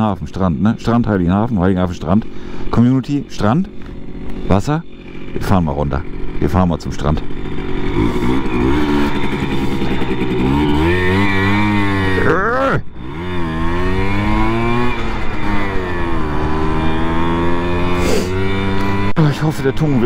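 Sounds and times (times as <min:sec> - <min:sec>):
moped engine revving: 0:00.0 - 0:20.0.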